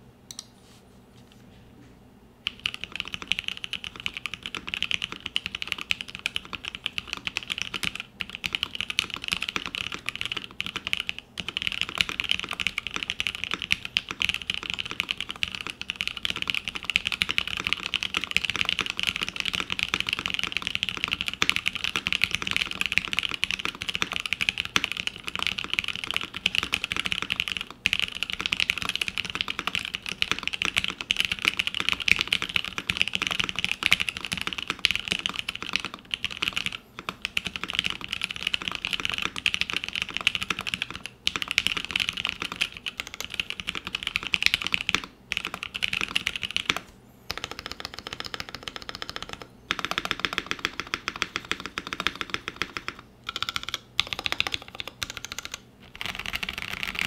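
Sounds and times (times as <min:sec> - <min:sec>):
keyboard typing: 0:02.4 - 0:57.0.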